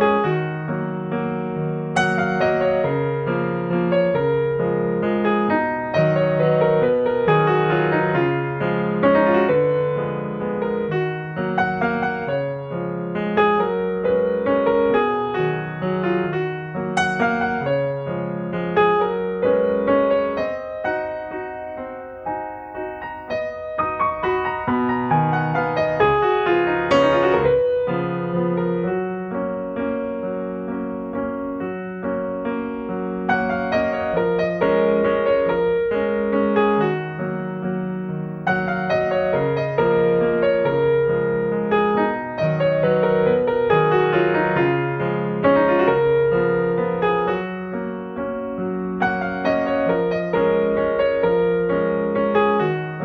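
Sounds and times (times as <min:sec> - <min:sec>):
piano music: 0:00.0 - 0:53.0.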